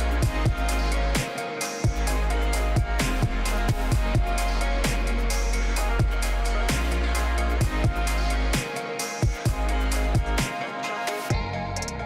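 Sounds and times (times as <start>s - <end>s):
music with deep bass and drums: 0.0s - 10.6s, 11.2s - 12.0s.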